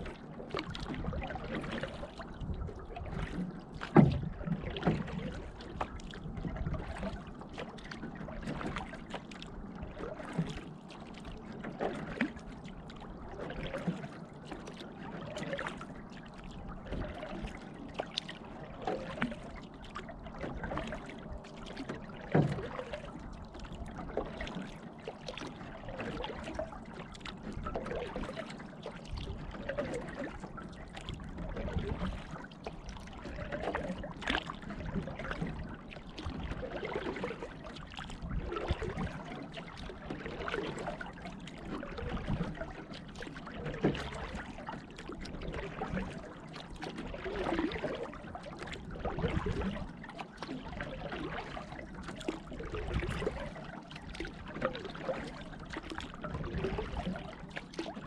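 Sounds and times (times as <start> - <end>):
paddle strokes in water: 0.0 - 58.0.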